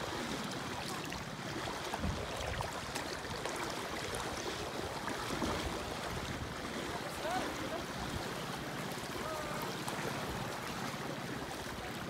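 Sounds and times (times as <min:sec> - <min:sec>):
seawater sloshing around legs: 0:00.0 - 0:12.0.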